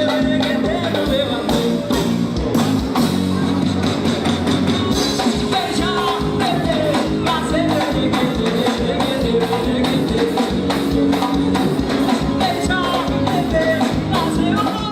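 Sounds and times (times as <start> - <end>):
person singing: 0.0 - 2.2, 5.2 - 14.9
drum kit and percussion beat: 0.0 - 14.9.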